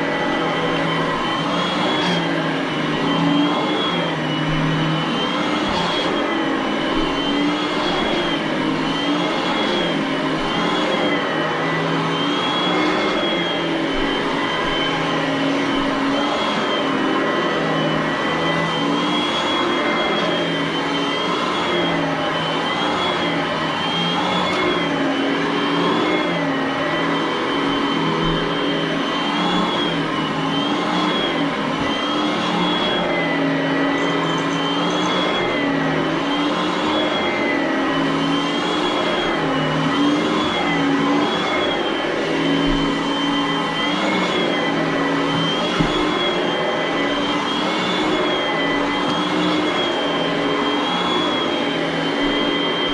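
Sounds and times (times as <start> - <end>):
upright vacuum cleaner running: 0.0 - 52.9.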